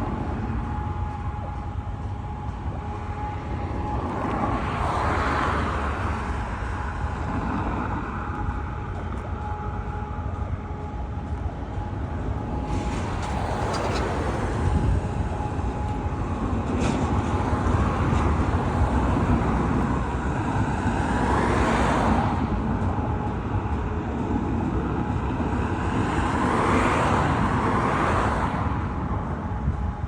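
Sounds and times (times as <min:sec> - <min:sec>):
steady low rumble: 0:00.0 - 0:26.4
road traffic passing: 0:00.0 - 0:30.0.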